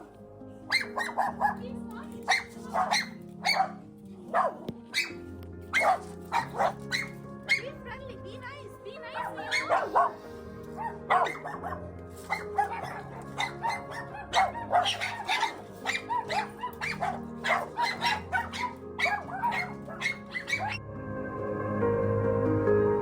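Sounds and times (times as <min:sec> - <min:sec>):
background music: 0:00.0 - 0:23.0
puppies barking and yipping: 0:00.7 - 0:07.8, 0:09.0 - 0:20.8.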